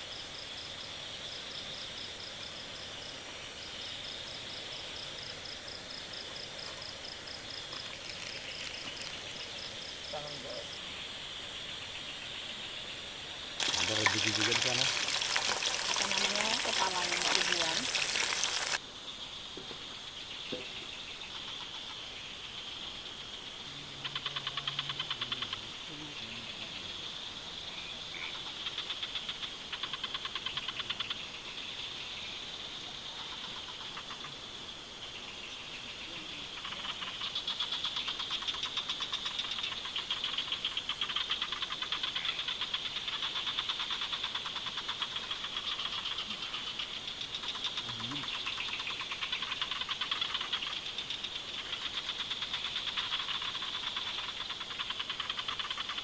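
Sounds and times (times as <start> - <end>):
insects droning and trilling: 0.0 - 56.0.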